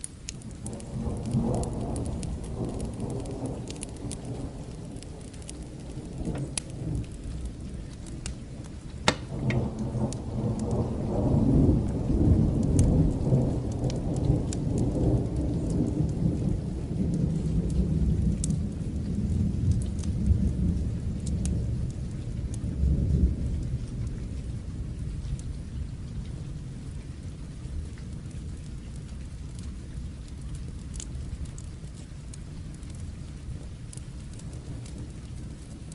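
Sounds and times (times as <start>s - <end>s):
steady rain: 0.0s - 35.9s
wood fire crackling: 0.0s - 35.9s
rolling thunder: 0.3s - 35.9s.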